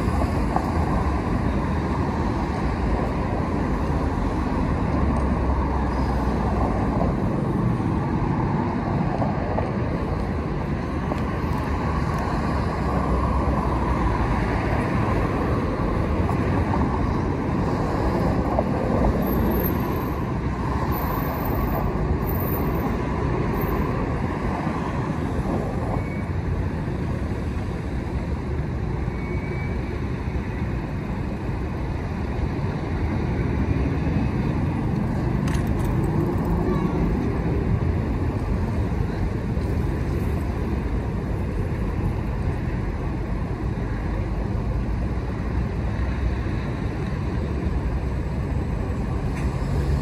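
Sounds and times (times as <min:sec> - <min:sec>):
cars passing and idling: 0:00.0 - 0:50.0.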